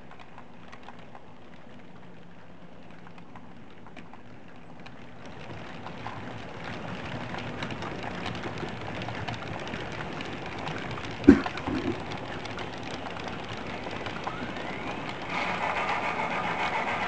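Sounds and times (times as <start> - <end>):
small metal wheels rattling on rails: 0.0 - 17.0.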